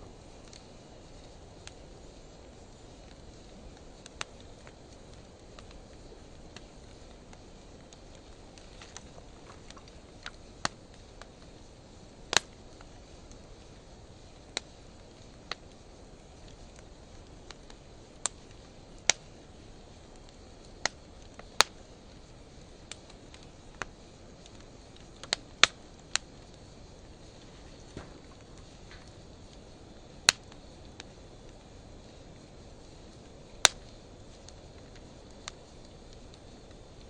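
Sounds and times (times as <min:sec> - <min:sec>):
fire pops and crackles: 0:00.0 - 0:37.0
wood fire hissing: 0:00.0 - 0:37.0.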